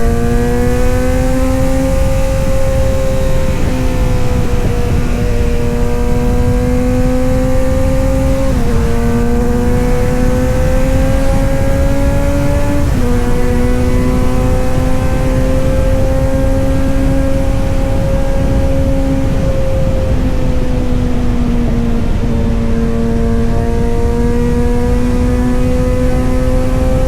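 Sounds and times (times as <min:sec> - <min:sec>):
motorcycle engine under load: 0:00.0 - 0:27.0.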